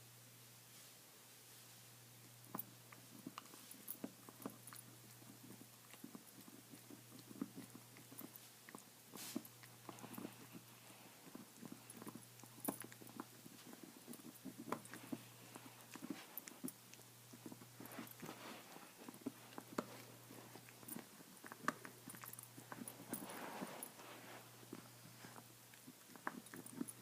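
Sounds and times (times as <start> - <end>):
dog gnawing on a bone: 2.3 - 27.0.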